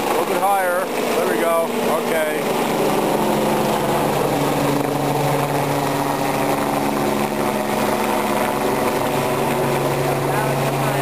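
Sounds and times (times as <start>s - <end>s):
helicopter rotor and turbine drone: 0.0s - 11.0s.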